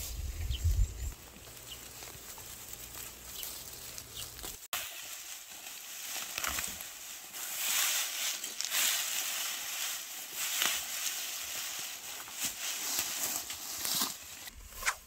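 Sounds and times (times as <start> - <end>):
plants rustling and crackling: 0.0 - 15.0.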